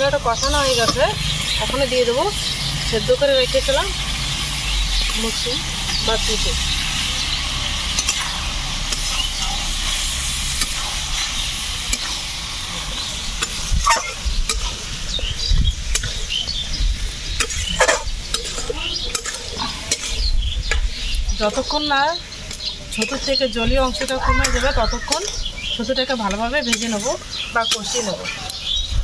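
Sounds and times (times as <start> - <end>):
mushrooms sizzling in a wok: 0.0 - 29.0.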